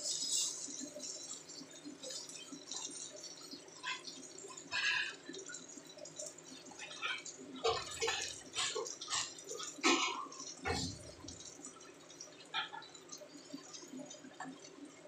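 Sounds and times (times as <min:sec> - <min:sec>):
fish frying in popping oil: 0:00.0 - 0:15.0.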